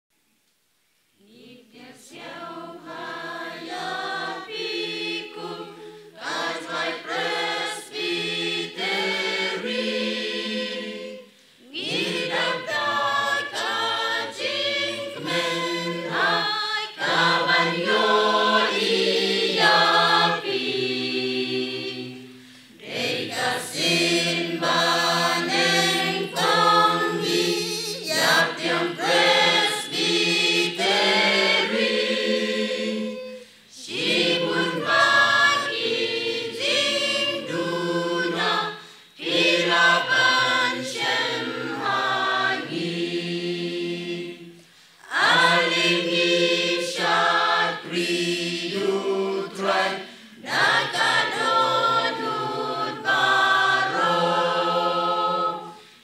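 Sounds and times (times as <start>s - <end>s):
choir singing gospel song: 1.2s - 56.0s.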